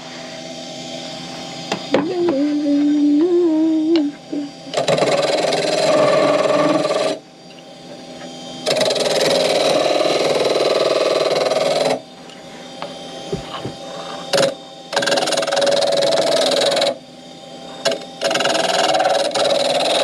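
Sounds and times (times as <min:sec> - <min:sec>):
pitched whine: 0:00.0 - 0:20.0
wood lathe running: 0:00.0 - 0:20.0
turning tool cutting wood: 0:01.4 - 0:17.0, 0:17.6 - 0:20.0.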